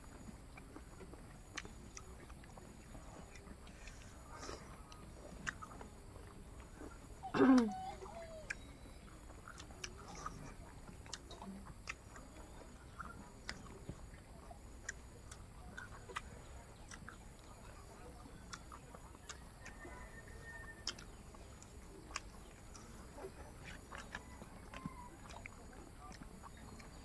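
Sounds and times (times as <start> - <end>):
people chewing and lip smacking: 0.0 - 27.0.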